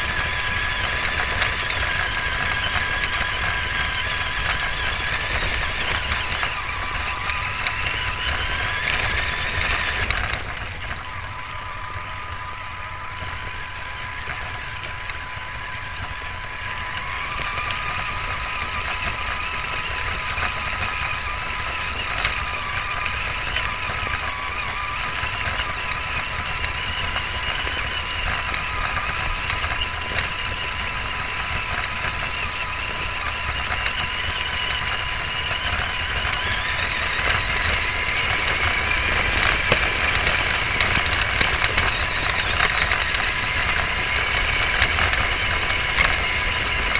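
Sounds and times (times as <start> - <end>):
chassis rumbling over rough ground: 0.0 - 46.9
rc car motor whining: 0.0 - 46.9.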